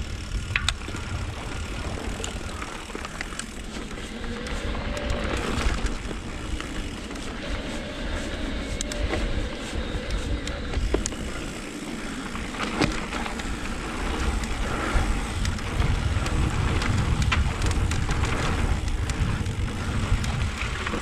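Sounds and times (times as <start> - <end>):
bike clicks and rattles: 0.0 - 21.0
wind and tyre rumble: 0.0 - 21.0.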